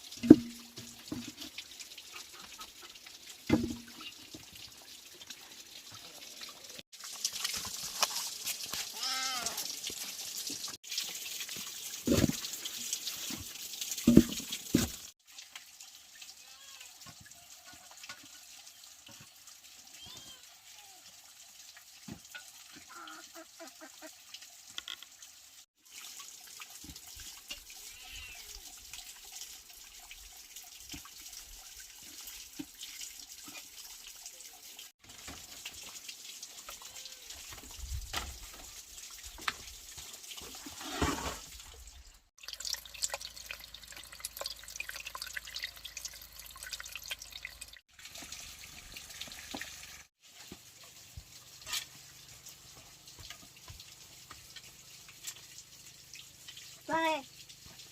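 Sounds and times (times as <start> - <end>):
water running and splashing: 0.0 - 57.9.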